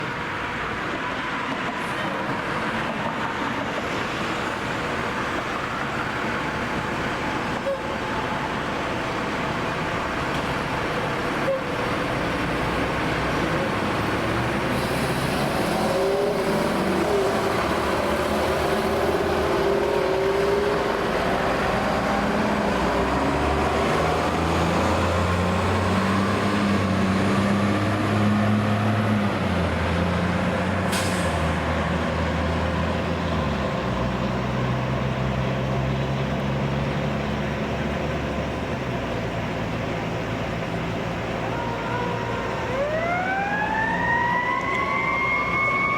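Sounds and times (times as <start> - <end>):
emergency vehicle engine drone: 0.0 - 45.9
road traffic noise: 0.0 - 45.9.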